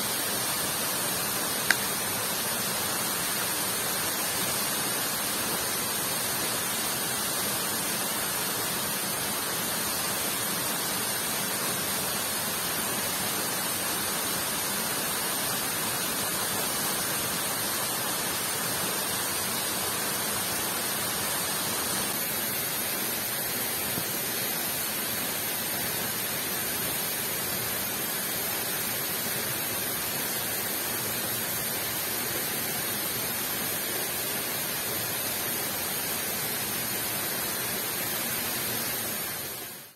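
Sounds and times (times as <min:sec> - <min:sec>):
heavy rain and waterfall hiss: 0:00.0 - 0:39.9.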